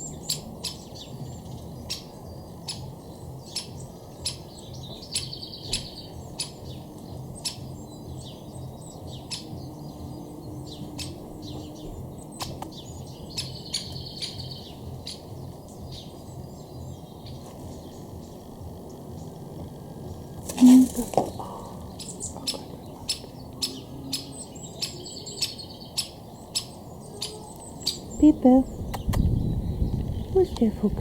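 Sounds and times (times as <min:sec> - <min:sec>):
birds singing and chirping: 0:00.0 - 0:31.0
steady low rumble: 0:00.0 - 0:31.0.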